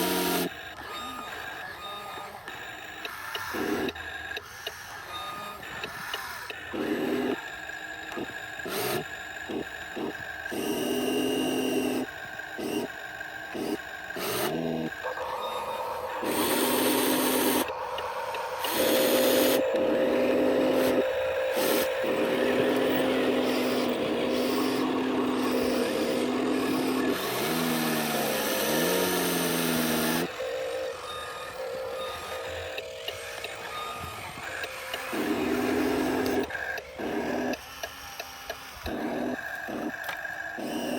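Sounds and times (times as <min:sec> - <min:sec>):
electric motors whining: 0:00.0 - 0:40.9.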